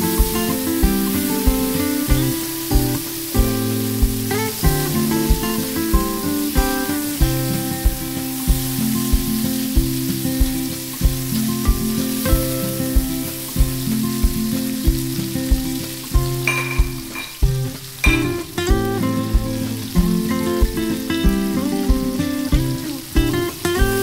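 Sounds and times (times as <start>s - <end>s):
background music with steady beat: 0.0s - 24.0s
food sizzling in hot oil: 0.0s - 24.0s.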